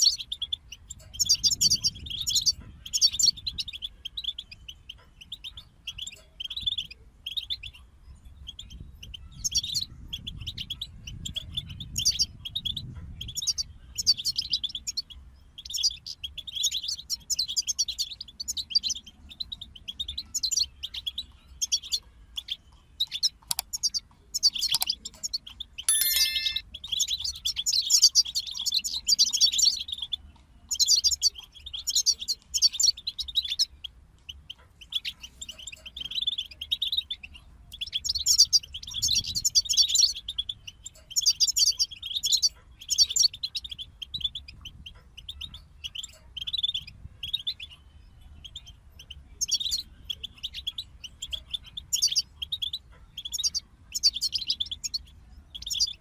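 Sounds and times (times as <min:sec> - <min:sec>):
finches twittering and chirping: 0:00.0 - 0:07.8, 0:08.4 - 0:56.0.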